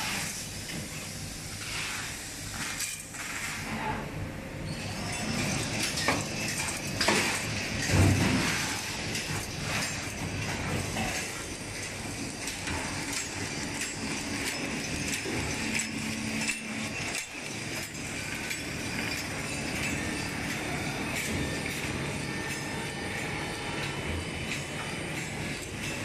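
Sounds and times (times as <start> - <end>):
steady machine noise: 4.5 - 26.0.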